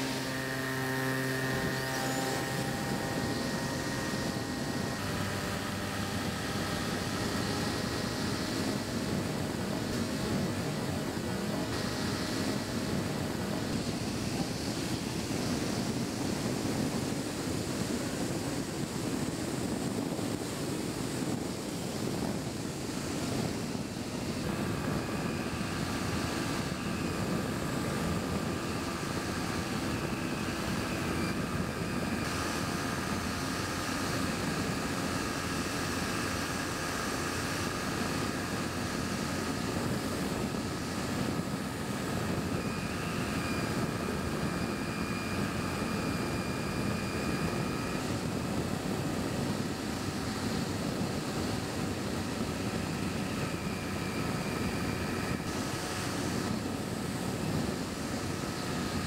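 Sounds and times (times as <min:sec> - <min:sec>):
high motor whine: 0:00.0 - 0:59.0
plane motor and propeller drone: 0:00.0 - 0:59.0
wind rushing over camera: 0:00.0 - 0:59.0.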